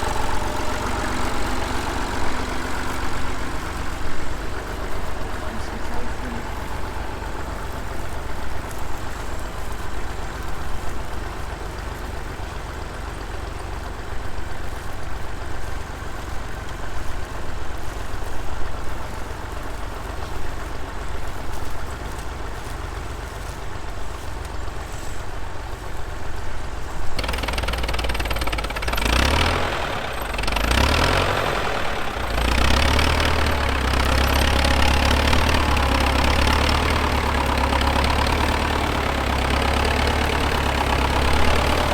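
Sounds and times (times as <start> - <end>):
engine running and revving: 0.0 - 41.9.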